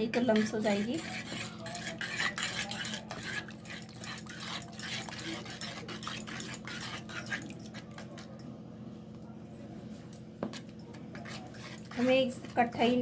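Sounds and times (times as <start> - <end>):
wire whisk scraping pan: 0.0 - 8.4, 10.5 - 13.0.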